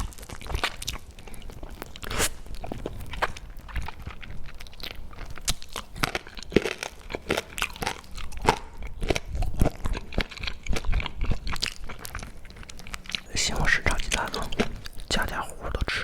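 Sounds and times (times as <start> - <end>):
person biting and chewing crunchily: 0.0 - 15.9.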